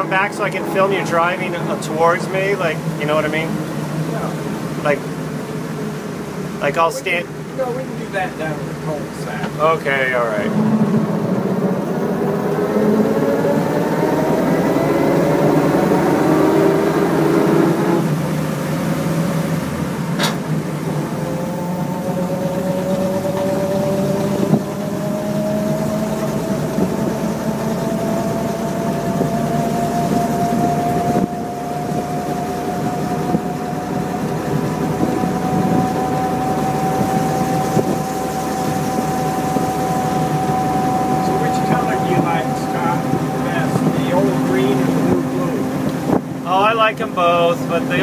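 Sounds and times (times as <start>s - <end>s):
road noise: 0.0s - 48.0s
truck engine running: 0.0s - 48.0s
whine rising in pitch: 0.0s - 48.0s.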